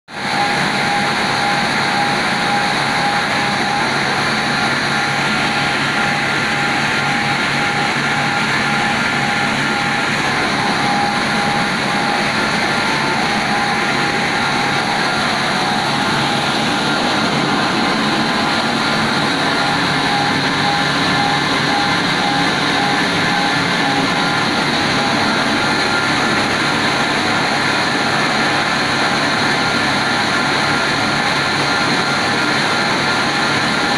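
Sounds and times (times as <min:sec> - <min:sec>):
wavering machine whine: 0:00.1 - 0:33.9
wire saw machine running: 0:00.1 - 0:33.9.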